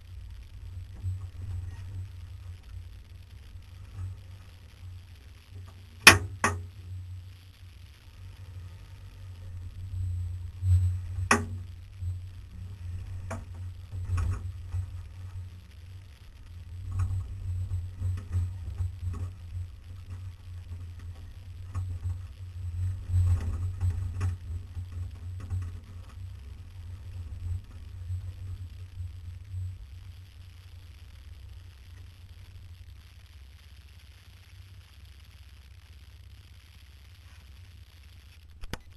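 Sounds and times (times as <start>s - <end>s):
off-road vehicle engine drone: 0.0s - 35.4s.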